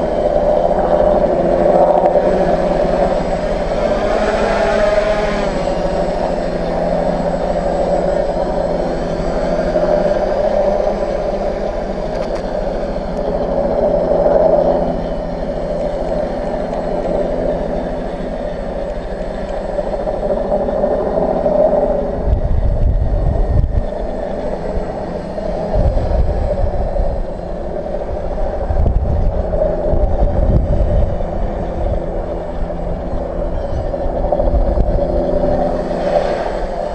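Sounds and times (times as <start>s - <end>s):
propeller buzz: 0.0s - 36.9s
wind gusts on microphone: 0.0s - 36.9s.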